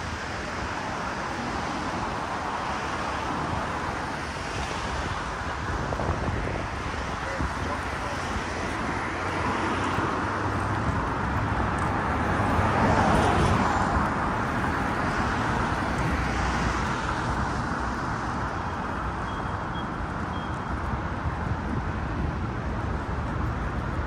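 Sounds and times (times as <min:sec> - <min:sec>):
hum of passing vehicles: 0:00.0 - 0:24.0.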